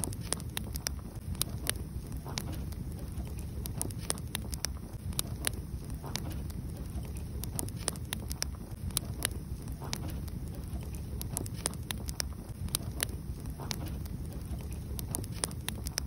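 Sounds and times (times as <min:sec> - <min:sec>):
steady low noise: 0:00.0 - 0:16.0
wood fire crackling and popping: 0:00.0 - 0:16.0.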